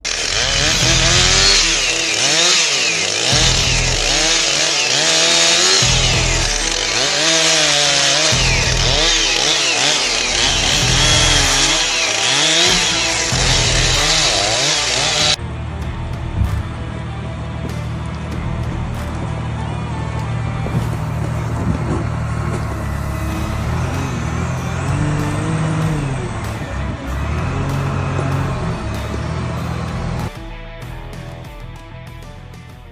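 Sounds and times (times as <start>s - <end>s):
rough machine-like whine: 0.0s - 30.3s
loud music: 0.0s - 32.9s.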